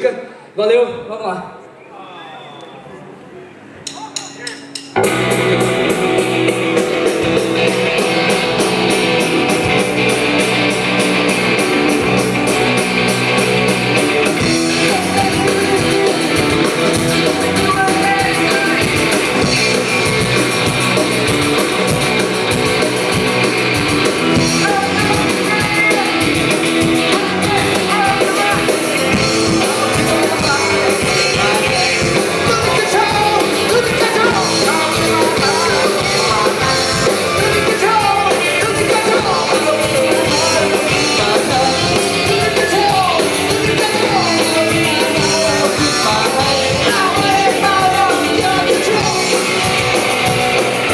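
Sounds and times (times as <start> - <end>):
live rock band playing: 3.5 - 50.9
electric guitar: 4.4 - 50.9.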